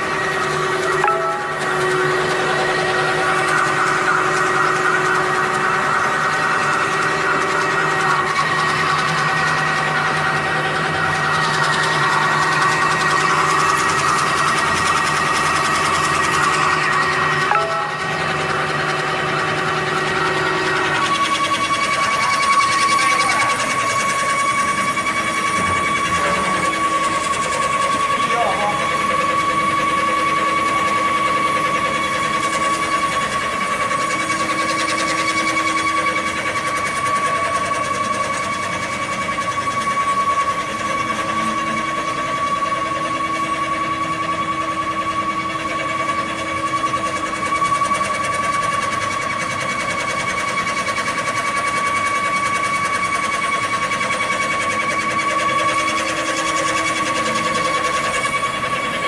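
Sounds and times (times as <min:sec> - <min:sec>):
high-pitched motor whine: 0:00.0 - 0:59.0
low machinery hum: 0:00.0 - 0:59.0.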